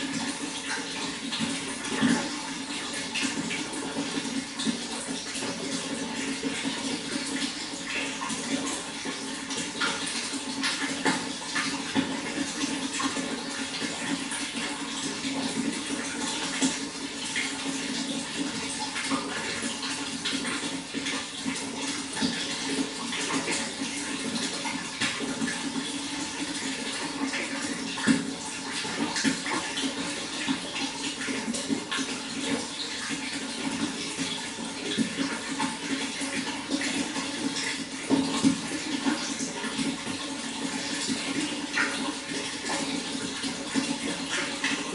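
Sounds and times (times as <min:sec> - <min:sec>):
running water splashing: 0:00.0 - 0:44.9.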